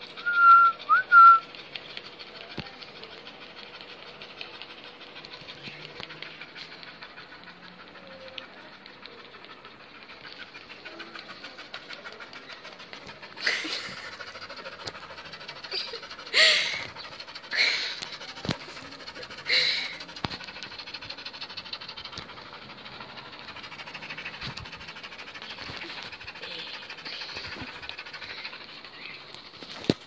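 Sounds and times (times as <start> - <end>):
dog breathy puffs or sniffs: 0.0 - 30.0
small dog panting: 0.0 - 30.0.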